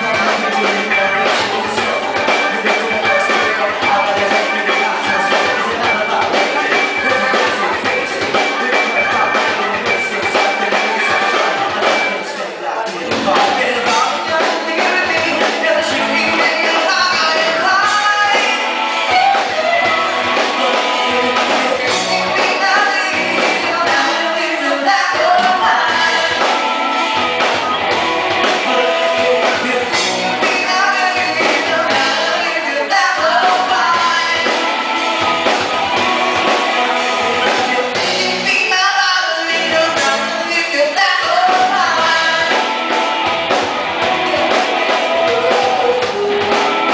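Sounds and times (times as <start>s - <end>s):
electric guitar: 0.0s - 46.9s
live band playing: 0.0s - 46.9s
person singing: 0.0s - 46.9s.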